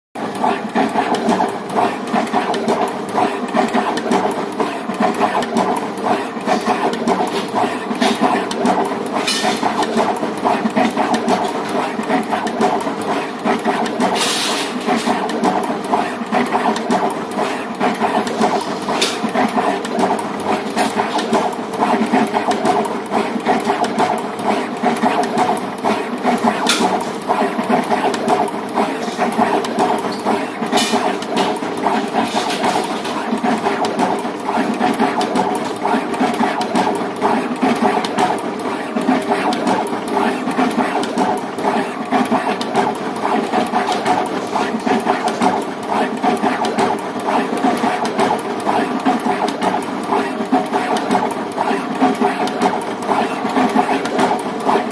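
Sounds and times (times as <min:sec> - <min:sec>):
machine whirring: 0:00.2 - 0:54.9.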